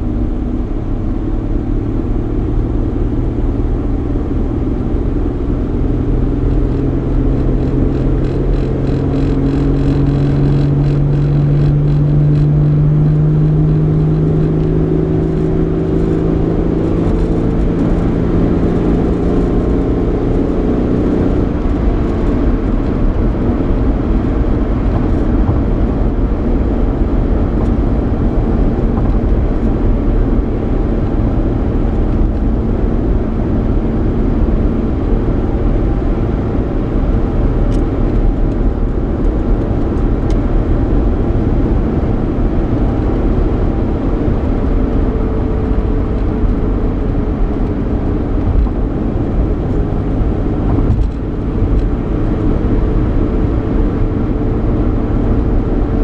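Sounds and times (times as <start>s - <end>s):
car engine hum: 0.0s - 56.0s
tyre and road rumble: 0.0s - 56.0s.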